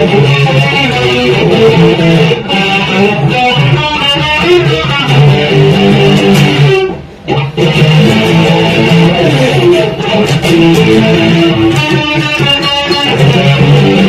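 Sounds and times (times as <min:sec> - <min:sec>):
electric guitar playing: 0:00.0 - 0:14.0.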